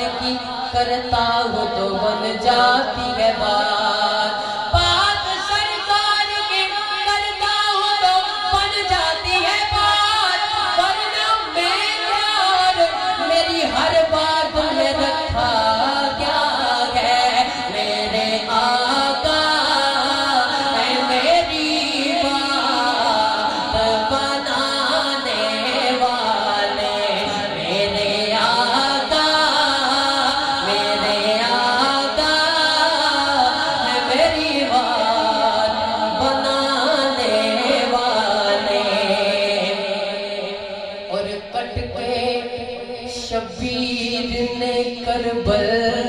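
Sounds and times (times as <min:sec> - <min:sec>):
man singing into a microphone: 0:00.0 - 0:46.0.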